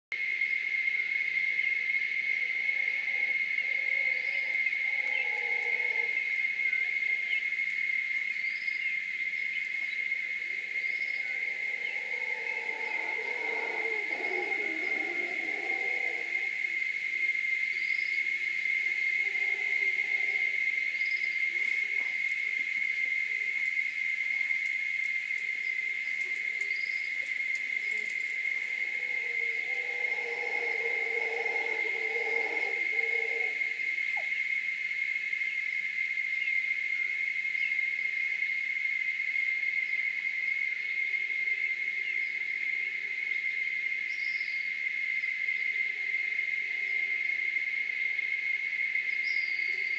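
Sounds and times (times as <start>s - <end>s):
distant howler monkeys howling: 0.2s - 49.9s
high-pitched insect drone: 0.2s - 49.9s.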